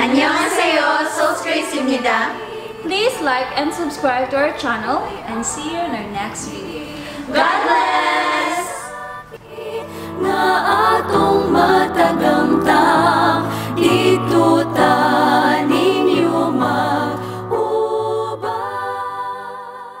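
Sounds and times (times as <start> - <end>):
voices singing in harmony: 0.0 - 20.0.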